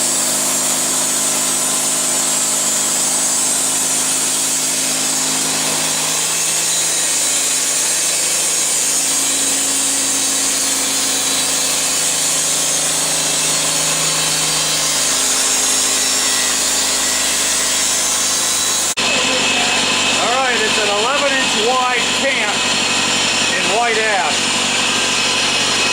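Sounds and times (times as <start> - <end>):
saw blade hissing through wood: 0.0 - 25.9.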